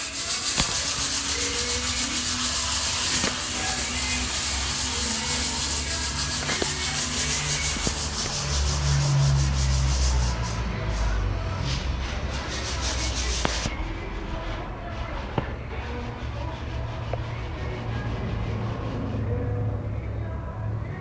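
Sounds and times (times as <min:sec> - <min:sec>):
scratchy rubbing on microphone: 0:00.0 - 0:19.3.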